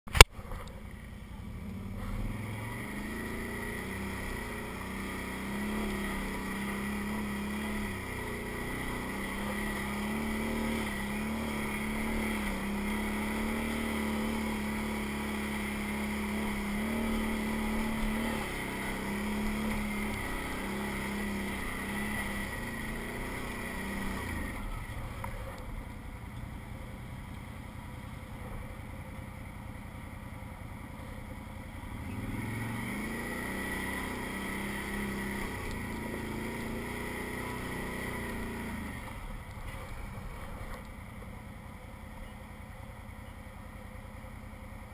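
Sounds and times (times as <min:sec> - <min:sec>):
atv engine revving: 0:00.1 - 0:26.8, 0:31.0 - 0:41.3.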